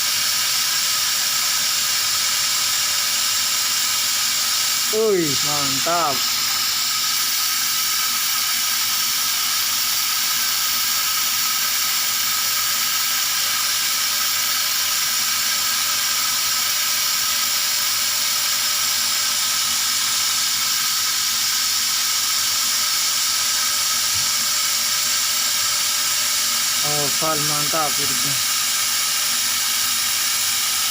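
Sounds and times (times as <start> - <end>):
laser cutter hissing: 0.0 - 30.9.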